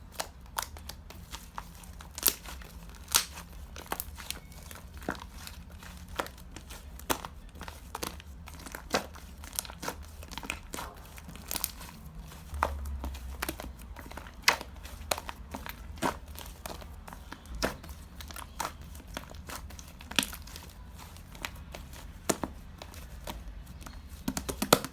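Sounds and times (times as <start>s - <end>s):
slime squished by hand: 0.1s - 24.9s.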